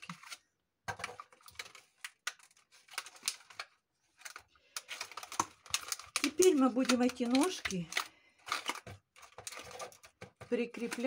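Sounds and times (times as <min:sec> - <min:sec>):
plastic pieces clicking and rustling: 0:00.0 - 0:11.0.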